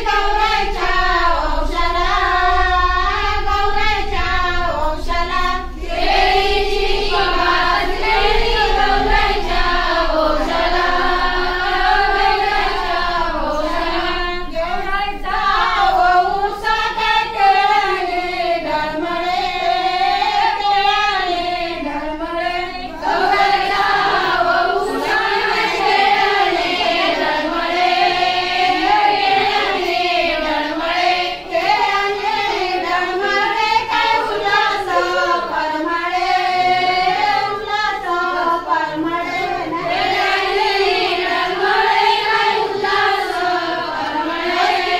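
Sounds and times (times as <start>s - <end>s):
women singing in unison: 0.0s - 44.9s.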